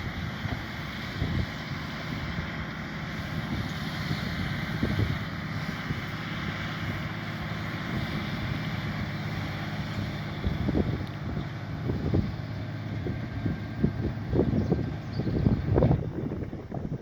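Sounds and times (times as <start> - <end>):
tractor engine running under load: 0.0 - 17.0
wind buffeting microphone: 0.0 - 17.0.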